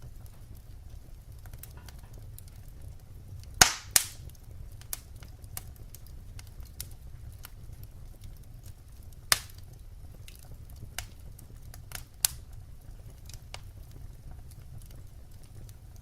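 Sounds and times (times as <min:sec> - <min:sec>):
fire popping: 0:00.0 - 0:16.0
log fire crackling: 0:00.0 - 0:16.0
low steady rumble: 0:00.0 - 0:16.0.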